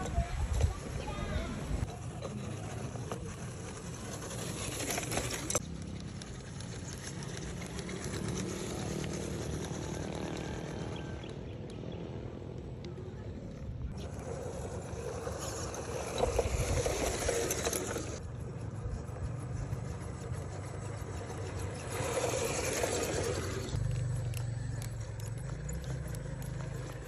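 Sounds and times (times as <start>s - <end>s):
toy car motor whirring: 0.0s - 11.0s, 13.9s - 27.0s.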